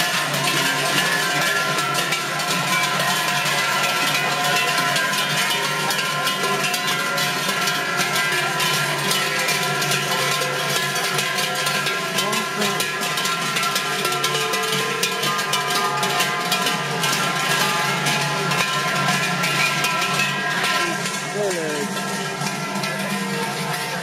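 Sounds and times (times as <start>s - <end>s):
large bells clanging: 0.0s - 24.0s.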